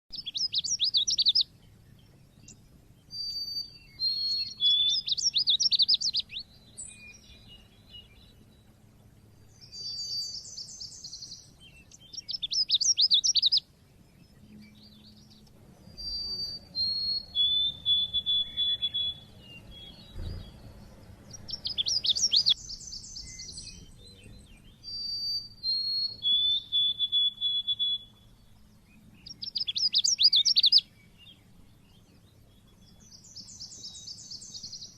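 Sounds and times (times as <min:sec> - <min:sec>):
bird singing trills and whistles: 0:00.1 - 0:08.8, 0:09.4 - 0:34.9.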